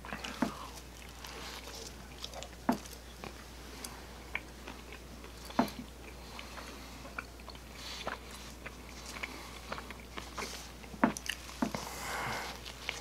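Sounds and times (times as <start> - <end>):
chewing with mouth clicks: 0.1 - 13.0
soft food crunches: 0.1 - 13.0.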